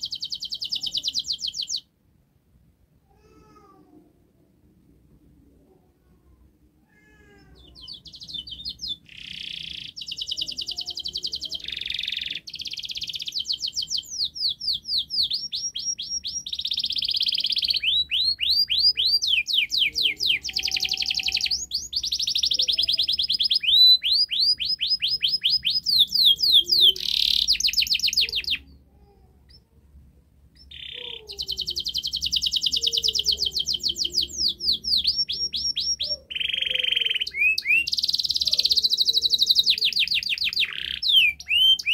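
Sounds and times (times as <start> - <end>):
canary singing trills: 0.0 - 1.9, 6.9 - 29.8, 30.4 - 41.9.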